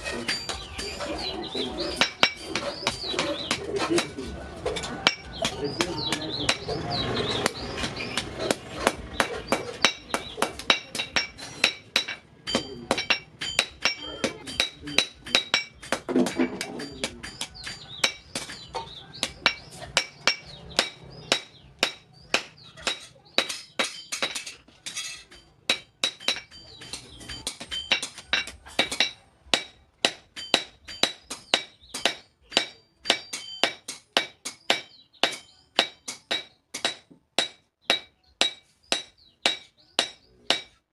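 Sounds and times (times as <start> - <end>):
hammer striking steel on anvil: 1.9 - 40.8.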